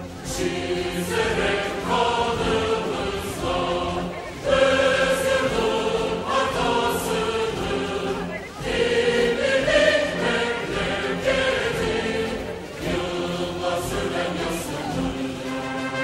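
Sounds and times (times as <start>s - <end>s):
crowd singing in unison: 0.0s - 16.0s.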